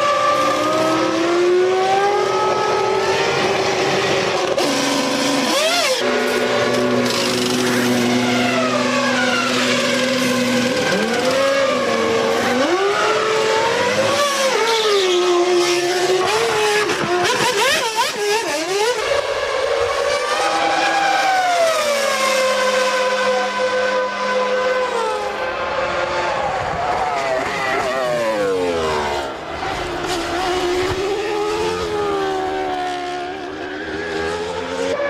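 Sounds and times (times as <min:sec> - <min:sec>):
race car engines at high revs: 0:00.0 - 0:35.0.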